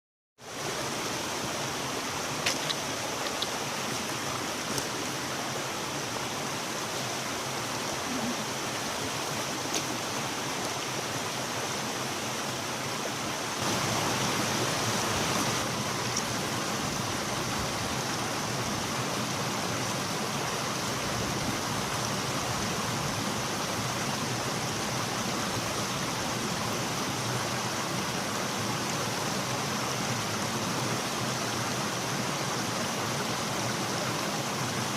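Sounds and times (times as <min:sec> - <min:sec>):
stream rushing: 0:00.4 - 0:34.9.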